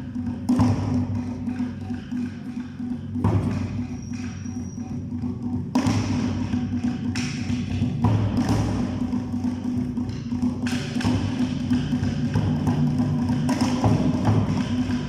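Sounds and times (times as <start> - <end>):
drums booming in heavy beats: 0.0 - 15.0.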